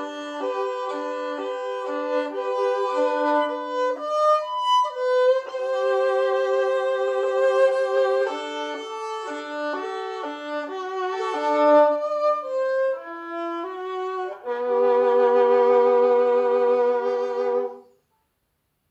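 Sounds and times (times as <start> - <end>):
solo violin: 0.0 - 18.0.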